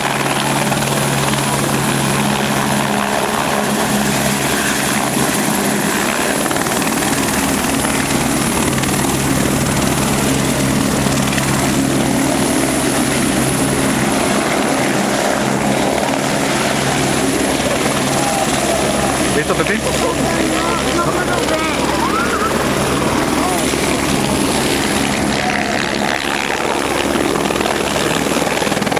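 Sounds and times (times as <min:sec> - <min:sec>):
helicopter turbine whine and rotors: 0:00.0 - 0:28.9.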